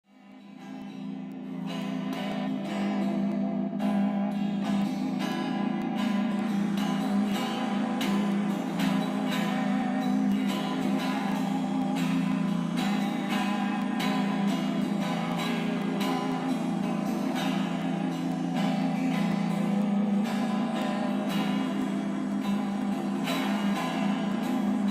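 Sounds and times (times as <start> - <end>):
steady low drone: 0.2 - 24.9
guitar strummed and plucked: 0.4 - 24.9.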